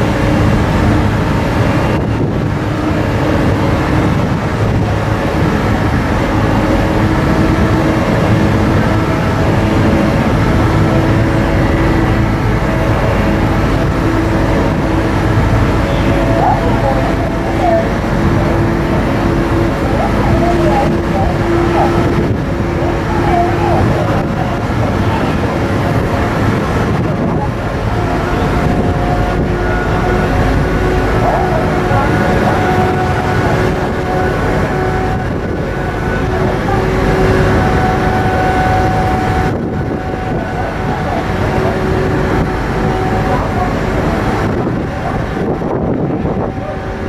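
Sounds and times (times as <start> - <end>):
faint voices: 0.0 - 47.0
ferry engines rumbling: 0.0 - 47.0
steady hum: 0.0 - 47.0.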